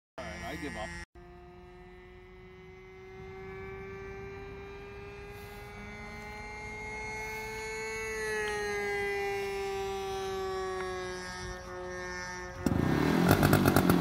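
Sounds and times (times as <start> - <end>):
electric starter whine: 0.2 - 14.0.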